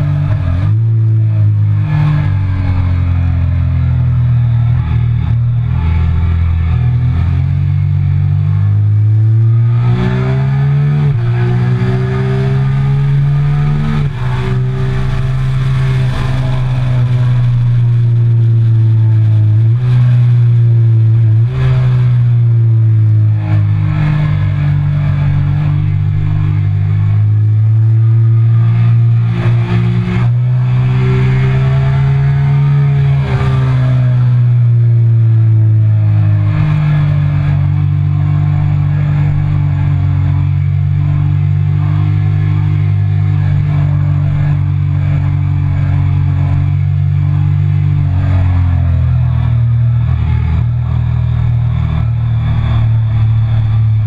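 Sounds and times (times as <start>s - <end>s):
motorcycle engine running hard: 0.0s - 54.0s.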